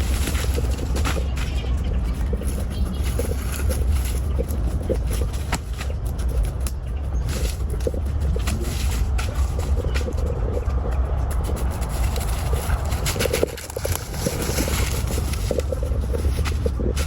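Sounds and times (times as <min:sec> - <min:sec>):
large engine deep rumble: 0:00.0 - 0:17.0
scattered clicks and knocks: 0:00.0 - 0:17.0.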